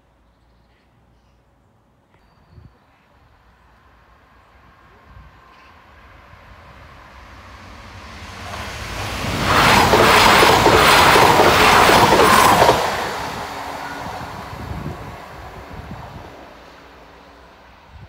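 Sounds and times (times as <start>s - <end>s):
diesel train passing: 3.3s - 18.0s.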